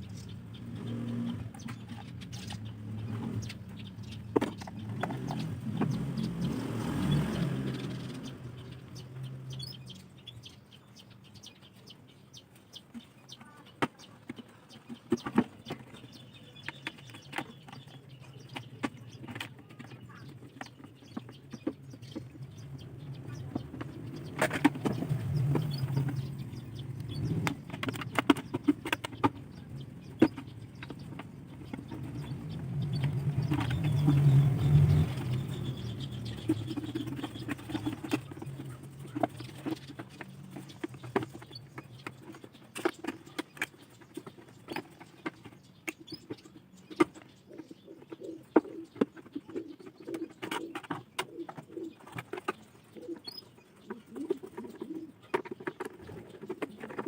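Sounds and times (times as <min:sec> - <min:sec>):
pigeons cooing: 0:00.0 - 0:10.0, 0:14.4 - 0:57.0.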